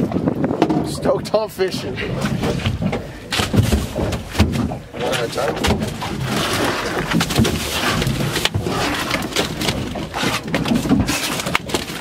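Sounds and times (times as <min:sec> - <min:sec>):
fish slapping and thudding: 0:01.7 - 0:12.0.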